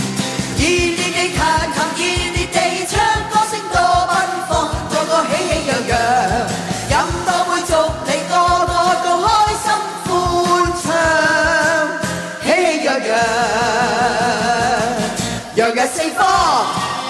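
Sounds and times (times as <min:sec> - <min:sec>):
upbeat pop song: 0:00.0 - 0:17.0.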